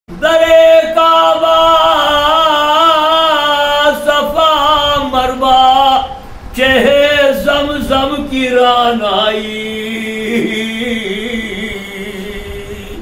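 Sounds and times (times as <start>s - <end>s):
man singing unaccompanied: 0.1s - 13.0s.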